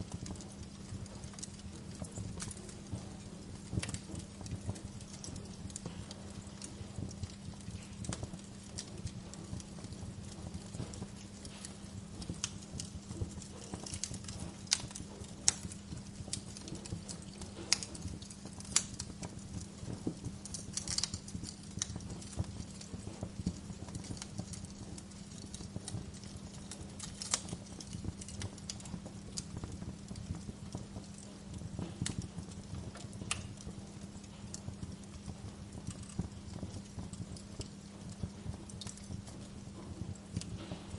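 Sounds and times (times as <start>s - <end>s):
steady low hum: 0.0s - 40.9s
wood fire crackling and popping: 0.0s - 40.9s.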